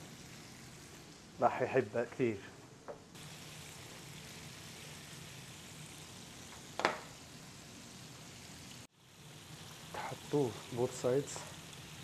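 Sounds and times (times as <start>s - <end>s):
chicken sizzling in hot oil: 0.0s - 2.0s, 3.1s - 12.0s.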